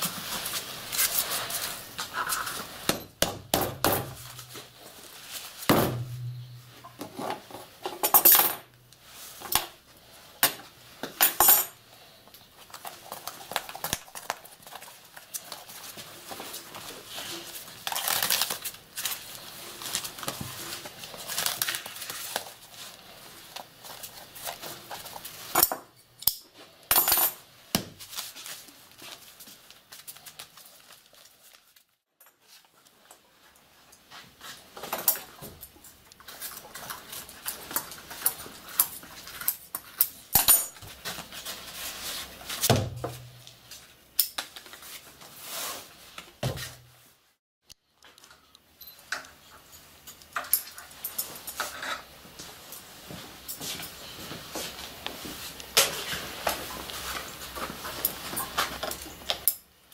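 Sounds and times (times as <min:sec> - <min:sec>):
paper and twine rustling: 0:00.0 - 0:03.0, 0:04.0 - 0:07.8, 0:12.0 - 0:25.6, 0:28.0 - 0:47.4, 0:49.7 - 0:59.4.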